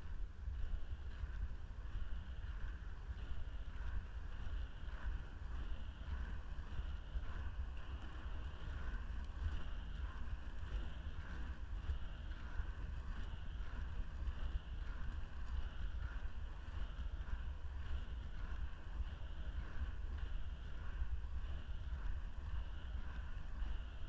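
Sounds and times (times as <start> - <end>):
skate wheels rolling on asphalt: 0.0 - 24.0
wind on microphone: 0.0 - 24.0.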